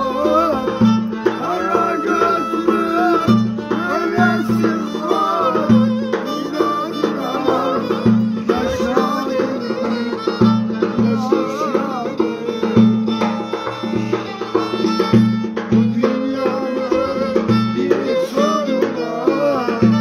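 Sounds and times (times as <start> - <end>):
hand drum beating: 0.0 - 20.0
violin playing folk dance tune: 0.0 - 20.0.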